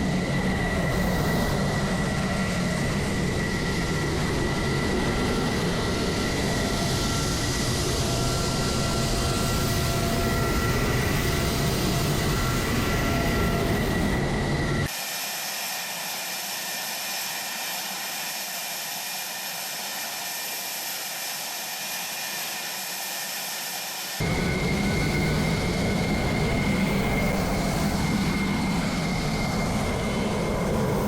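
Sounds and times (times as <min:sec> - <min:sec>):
jet engine idling with whine: 0:00.0 - 0:31.0.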